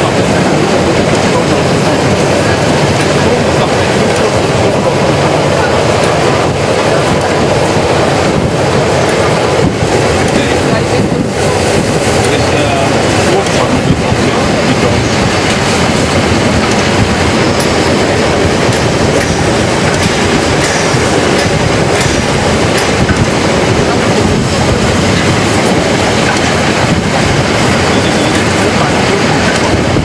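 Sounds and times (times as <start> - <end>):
rail joint clicks: 0.0 - 30.0
train wheels rumbling on rails: 0.0 - 30.0.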